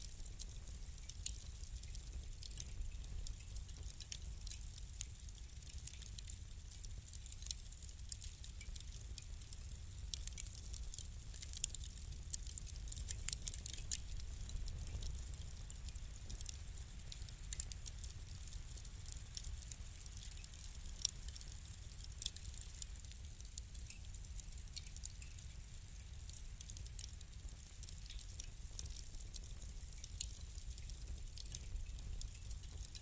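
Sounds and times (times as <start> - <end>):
low rumble of flames: 0.0 - 33.0
wood fire crackling and popping: 0.0 - 33.0.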